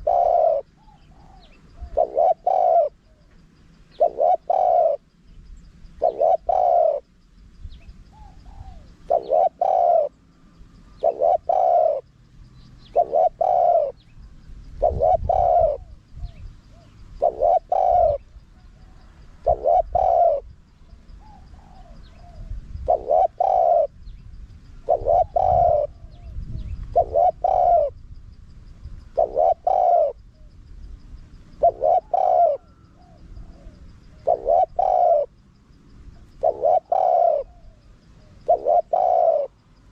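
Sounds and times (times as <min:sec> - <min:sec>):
dove cooing: 0:00.0 - 0:05.1, 0:05.9 - 0:07.2, 0:07.8 - 0:24.1, 0:24.7 - 0:28.0, 0:28.8 - 0:30.8, 0:31.5 - 0:35.4, 0:36.1 - 0:39.9.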